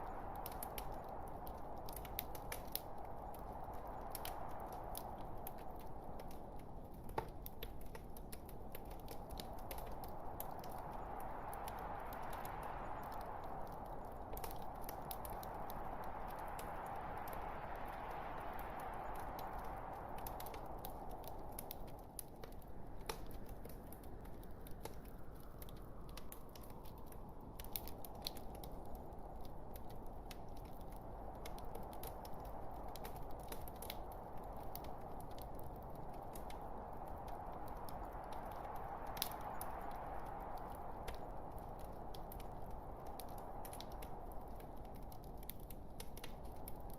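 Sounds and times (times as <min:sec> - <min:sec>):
burning wood crackling and popping: 0:00.0 - 0:46.9.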